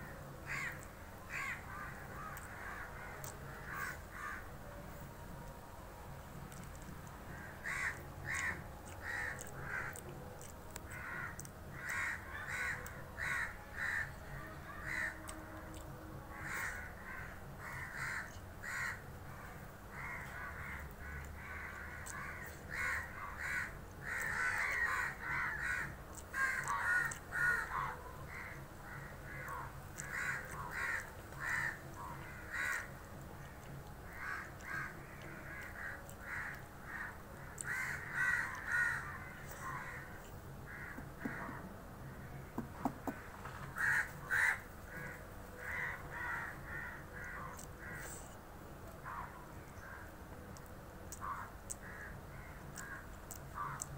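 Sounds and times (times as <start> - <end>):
crows cawing: 0.4 - 4.5, 7.3 - 15.4, 16.3 - 33.0, 33.6 - 48.3, 51.1 - 53.9.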